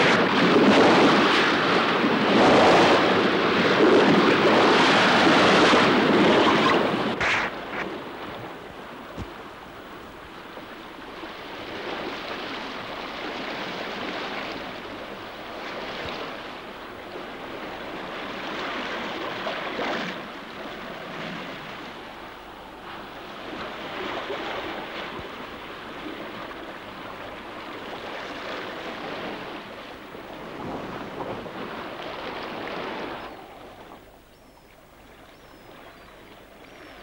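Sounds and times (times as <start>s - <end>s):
rushing sea water and spray: 0.0s - 37.0s
waves washing: 0.0s - 37.0s.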